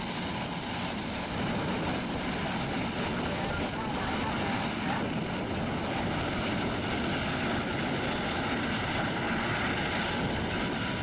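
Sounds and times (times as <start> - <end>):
jet engines rushing and hissing: 0.0 - 11.0.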